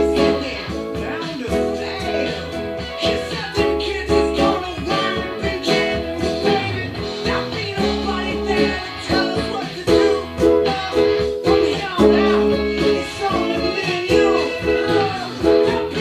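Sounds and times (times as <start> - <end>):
backing track with drums and bass: 0.0 - 16.0
electric guitar melody: 0.0 - 16.0.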